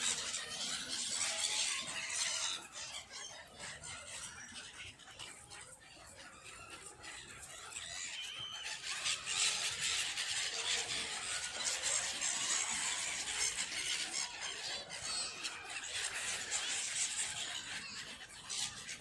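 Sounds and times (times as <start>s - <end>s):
flock of birds squealing: 0.0s - 19.0s.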